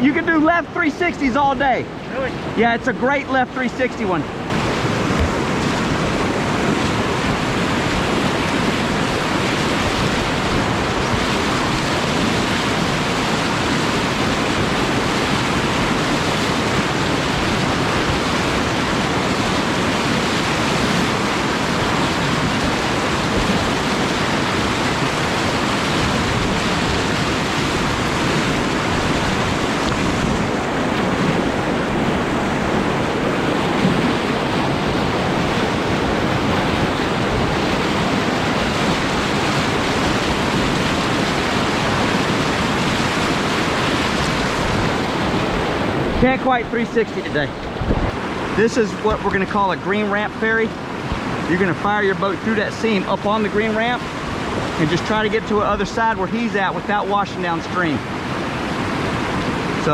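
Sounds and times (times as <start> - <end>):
whitewater rushing: 0.0 - 59.9.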